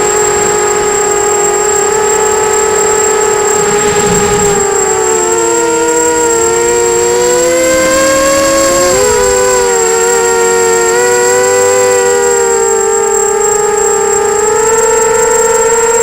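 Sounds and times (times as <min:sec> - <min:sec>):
quadcopter motors whining: 0:00.0 - 0:16.0
steady high-pitched whine: 0:00.0 - 0:16.0.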